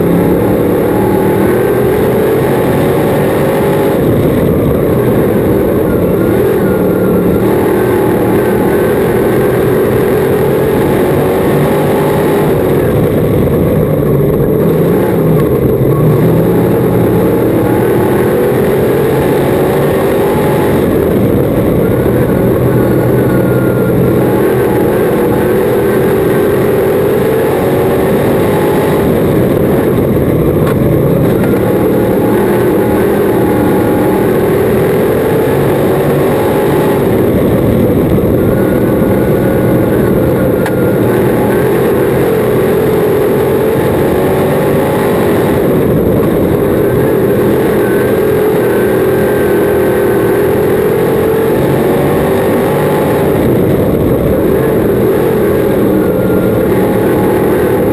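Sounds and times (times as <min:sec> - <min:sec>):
race car engine running hard: 0:00.0 - 0:57.9.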